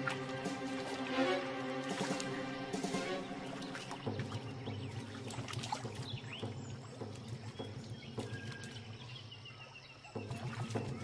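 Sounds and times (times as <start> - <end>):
water dripping: 0.0 - 11.0
water splashing and sloshing: 0.0 - 11.0.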